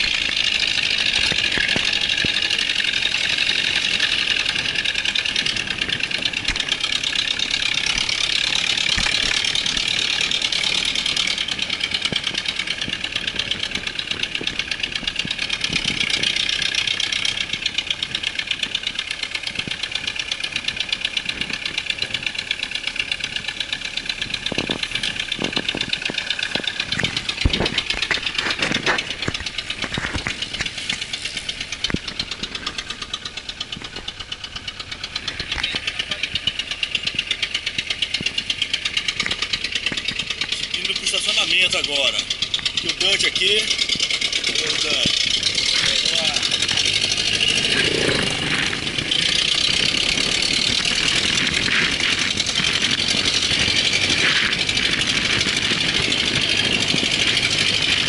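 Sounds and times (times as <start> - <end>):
vehicle engine running: 0.0 - 58.0
vehicle knocks and rattles: 0.0 - 58.0.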